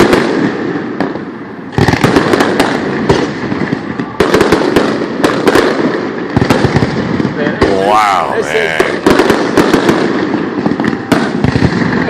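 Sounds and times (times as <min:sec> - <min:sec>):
rapid sharp firework pops: 0:00.0 - 0:07.7, 0:08.8 - 0:12.0
fireworks bursts: 0:00.0 - 0:12.0.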